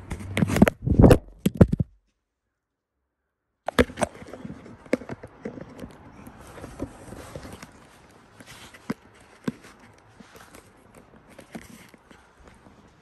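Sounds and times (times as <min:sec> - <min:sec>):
phone handling knocks and rustles: 0:00.1 - 0:02.0, 0:03.7 - 0:12.8.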